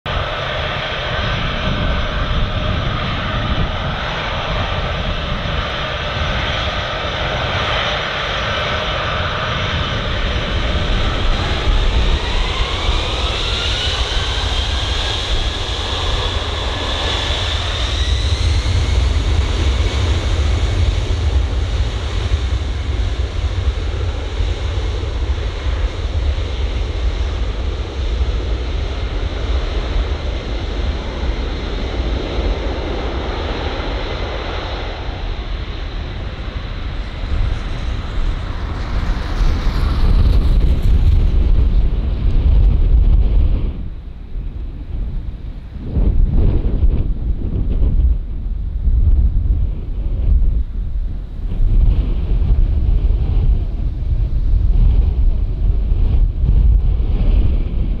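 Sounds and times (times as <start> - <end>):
jet engines rumbling: 0.1 - 58.0
jet engines whining: 0.1 - 58.0.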